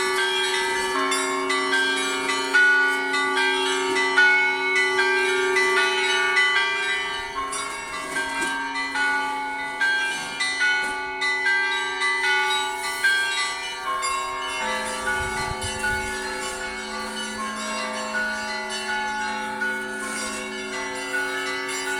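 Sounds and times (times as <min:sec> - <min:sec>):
deep church bell: 0:00.0 - 0:21.9
larger bells ringing: 0:00.0 - 0:21.9
small church bells striking: 0:00.0 - 0:21.9.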